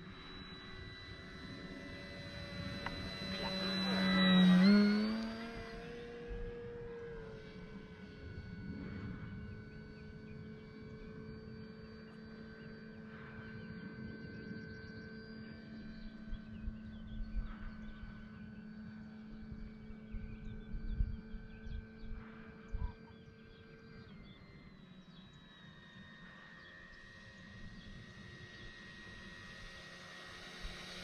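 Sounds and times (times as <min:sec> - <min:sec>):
distant model plane motor whine: 0:00.0 - 0:31.0.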